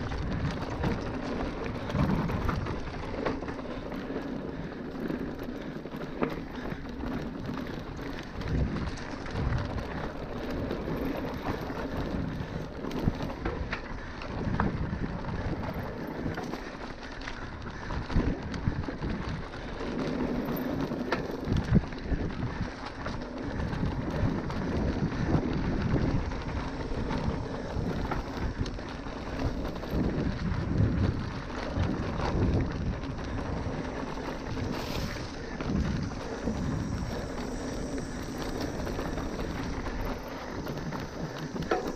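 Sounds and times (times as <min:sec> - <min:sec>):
bike rattling over dirt trail: 0:00.0 - 0:41.9
wind buffeting microphone: 0:00.0 - 0:41.9.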